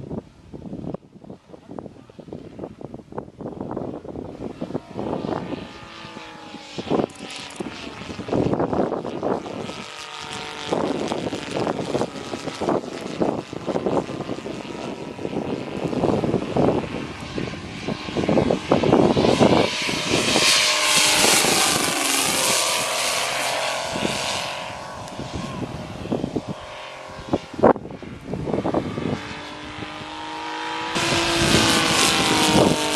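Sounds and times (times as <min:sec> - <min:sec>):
model airplane engine and propeller: 0:00.0 - 0:32.9.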